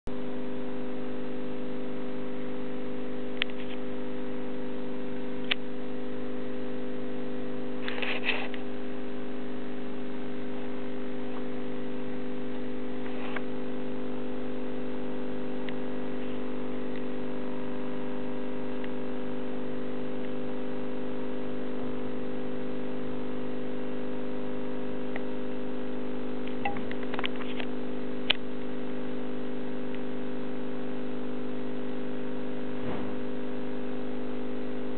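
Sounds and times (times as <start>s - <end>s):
steady electrical hum: 0.1s - 34.9s.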